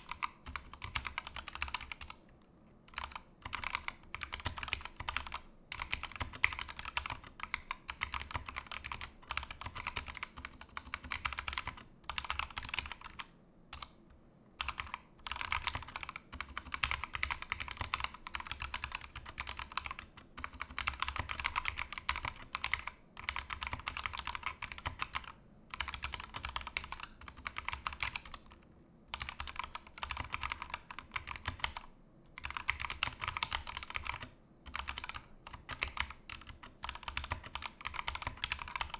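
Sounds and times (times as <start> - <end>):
mechanical keyboard typing: 0.0 - 2.2, 2.9 - 14.0, 14.6 - 38.9.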